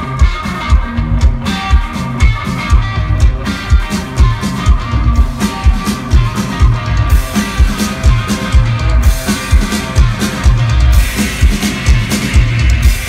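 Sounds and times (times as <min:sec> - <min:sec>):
drum kit: 0:00.0 - 0:13.0
electric guitar riff: 0:00.0 - 0:13.0.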